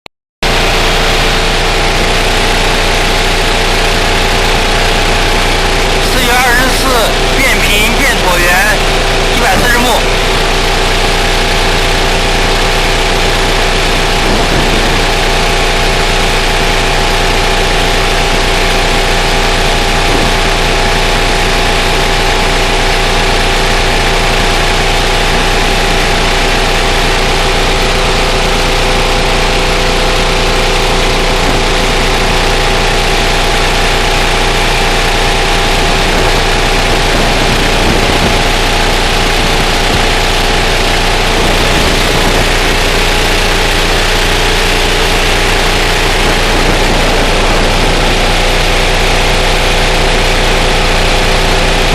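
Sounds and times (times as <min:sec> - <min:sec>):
shale shaker mechanical hum: 0:00.6 - 0:51.9.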